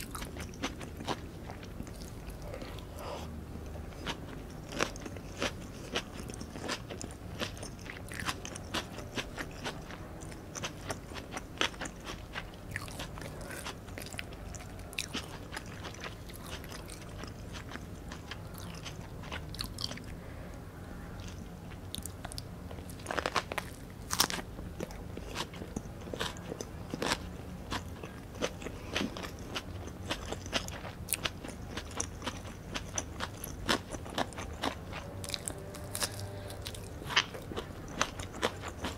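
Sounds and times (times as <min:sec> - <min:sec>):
crunchy chewing: 0:00.0 - 0:20.2, 0:20.9 - 0:38.9.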